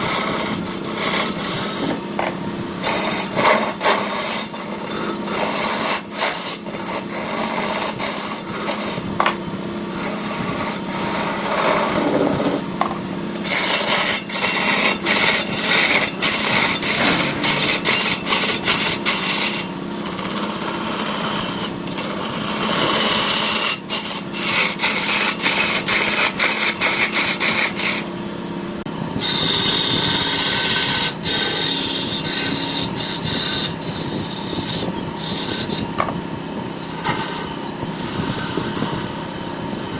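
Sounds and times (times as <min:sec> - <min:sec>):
lathe motor hum: 0:00.0 - 0:39.9
lathe tool scraping wood: 0:00.0 - 0:39.9.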